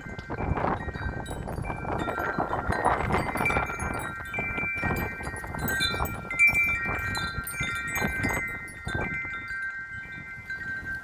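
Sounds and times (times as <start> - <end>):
metal wind chimes jangling: 0.0 - 11.0
wind rushing and buffeting: 0.0 - 11.0.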